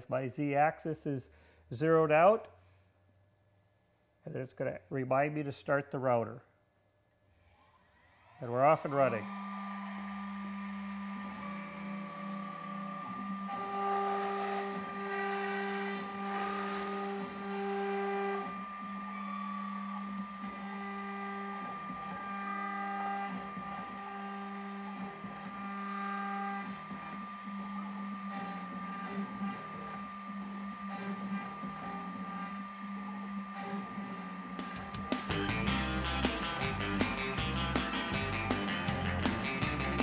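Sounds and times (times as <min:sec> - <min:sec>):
router motor whine: 0:07.2 - 0:40.0
router cutting wood: 0:07.4 - 0:40.0.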